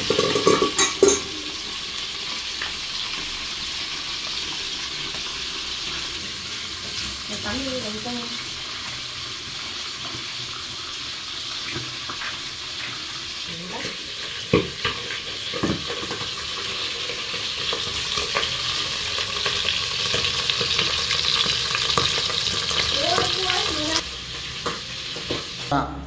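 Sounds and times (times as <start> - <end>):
meat deep-frying in oil: 0.0 - 26.0.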